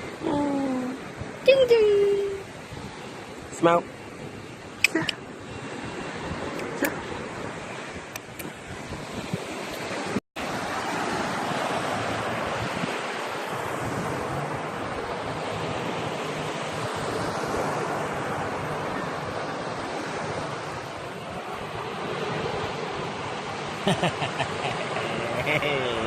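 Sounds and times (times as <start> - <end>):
wind buffeting microphone: 0.0 - 23.5
sea surf washing in: 0.0 - 26.0.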